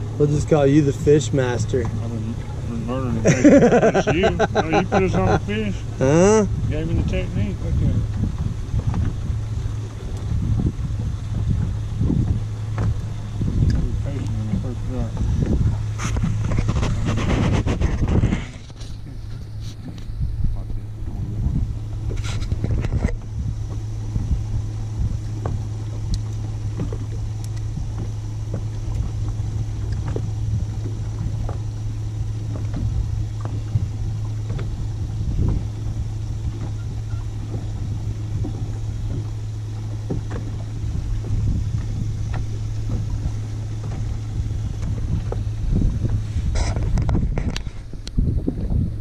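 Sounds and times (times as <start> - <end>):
boat motor humming: 0.0 - 49.0
knocks and taps on boat: 0.0 - 49.0.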